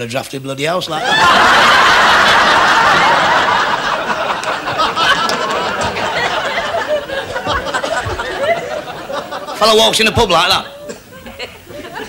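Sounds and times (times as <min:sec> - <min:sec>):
audience laughing: 0:00.9 - 0:12.0.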